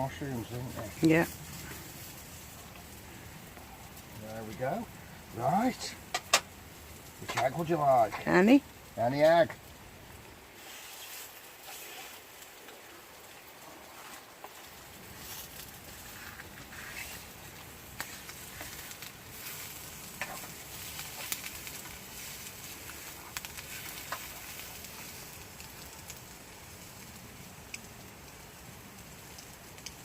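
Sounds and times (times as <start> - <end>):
eggs and mushrooms sizzling: 0.0 - 30.0.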